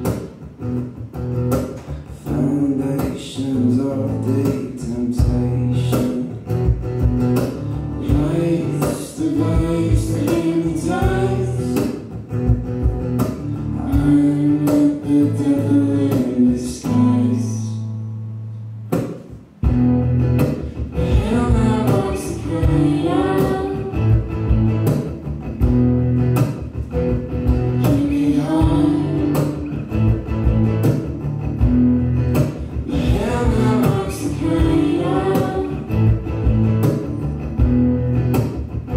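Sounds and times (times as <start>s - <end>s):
acoustic guitar: 0.0s - 38.9s.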